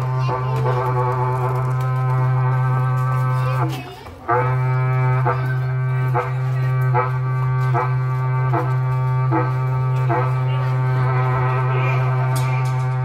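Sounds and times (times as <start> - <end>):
cattle horn blowing: 0.0 - 13.0.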